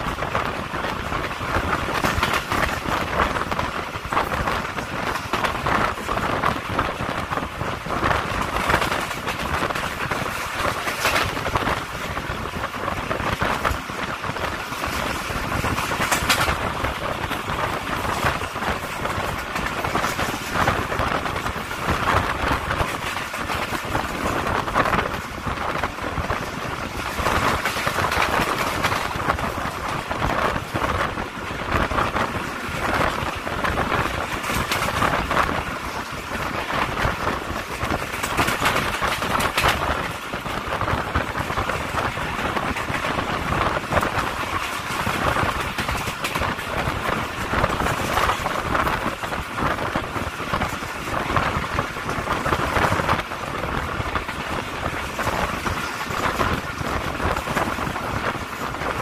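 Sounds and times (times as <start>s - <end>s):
train wheels rushing on rails: 0.0s - 59.0s.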